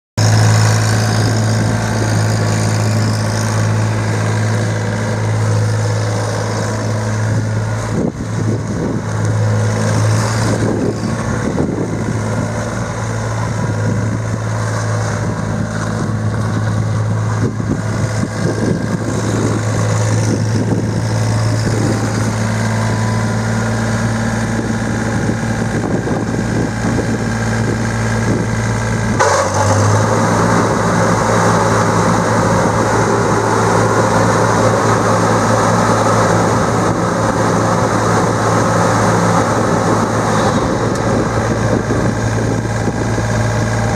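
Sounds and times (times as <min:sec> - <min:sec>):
diesel mower engine running: 0:00.2 - 0:43.9.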